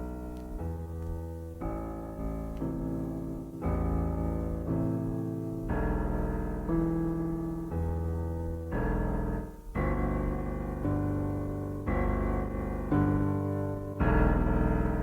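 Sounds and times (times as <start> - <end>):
electric keyboard chords: 0.0 - 15.0.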